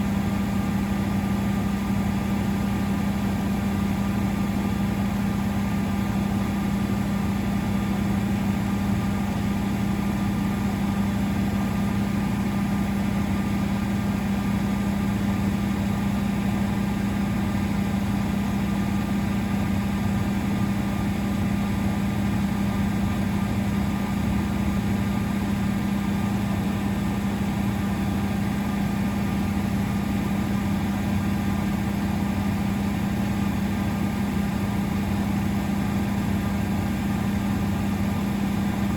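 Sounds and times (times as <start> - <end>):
washing machine humming: 0.0 - 38.9.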